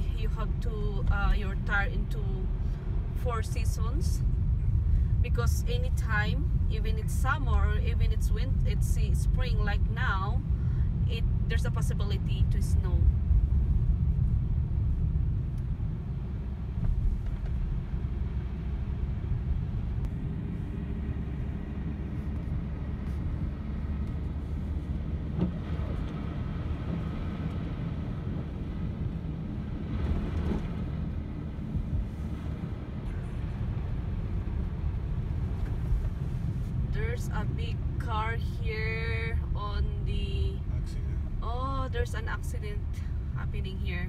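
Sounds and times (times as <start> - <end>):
car engine rumble from cabin: 0.0 - 44.0
tyres on wet snowy road: 0.0 - 44.0.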